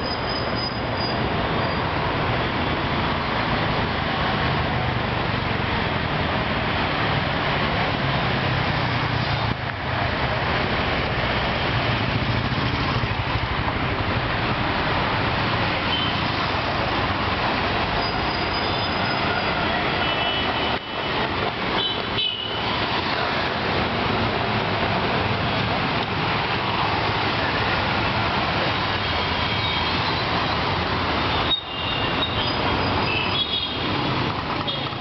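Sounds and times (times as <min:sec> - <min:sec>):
traffic engines and tyres: 0:00.0 - 0:35.0.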